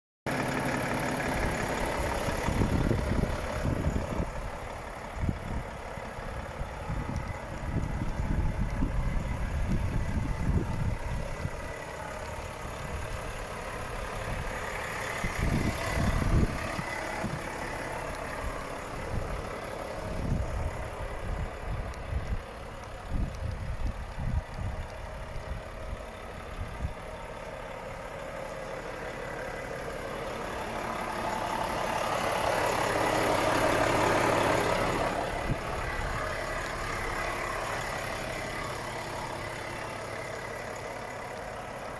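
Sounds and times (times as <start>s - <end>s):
diesel truck idling: 0.3s - 41.9s.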